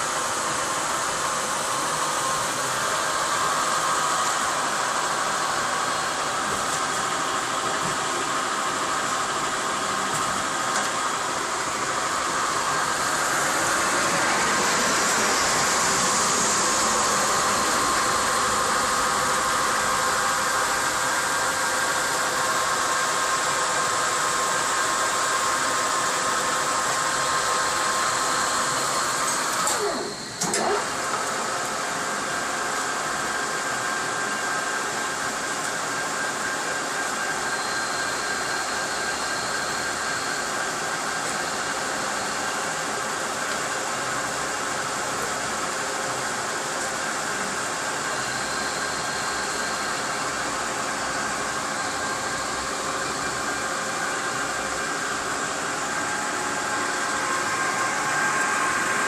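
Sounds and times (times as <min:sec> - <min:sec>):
lathe whining: 0:00.0 - 0:59.0.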